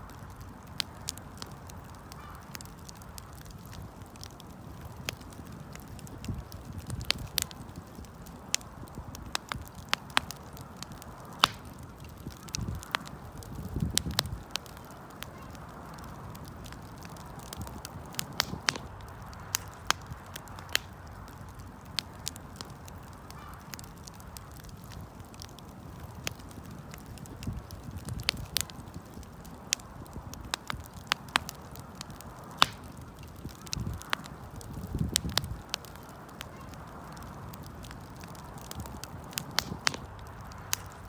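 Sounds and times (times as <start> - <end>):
campfire crackling and popping: 0.0 - 41.0
low rush of flames: 0.0 - 41.0.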